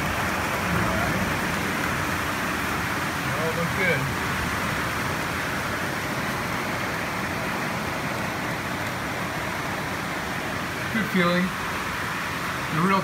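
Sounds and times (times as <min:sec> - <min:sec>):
rain on a metal roof: 0:00.0 - 0:13.0.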